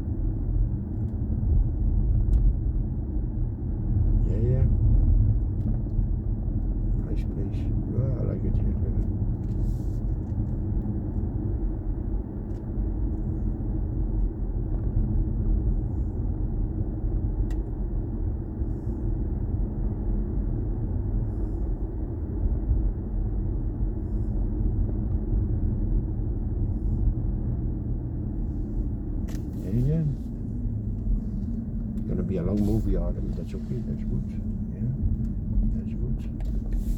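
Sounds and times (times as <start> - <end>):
road and tyre rumble in car: 0.0 - 36.9.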